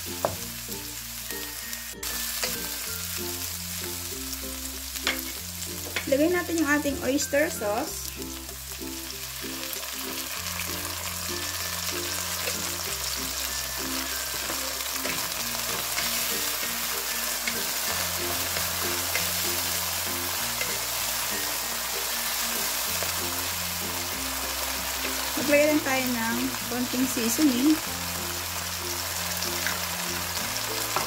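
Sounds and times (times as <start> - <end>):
background music with low notes: 0.0 - 31.0
food sizzling in hot oil: 0.0 - 31.0.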